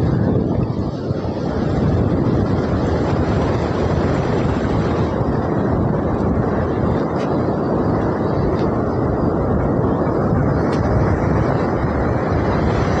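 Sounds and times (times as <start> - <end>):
heavy surf breaking: 0.0 - 13.0
strong wind buffeting microphone: 0.0 - 13.0.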